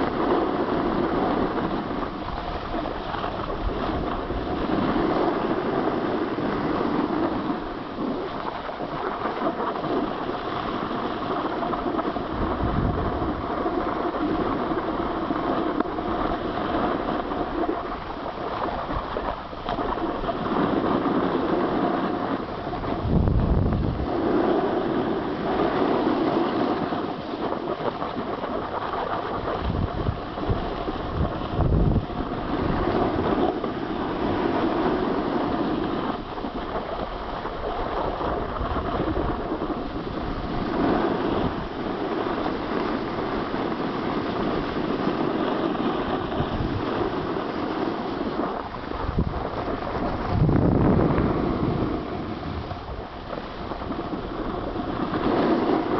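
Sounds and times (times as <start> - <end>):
skis scraping on snow: 0.0 - 55.9
wind buffeting microphone: 0.0 - 55.9.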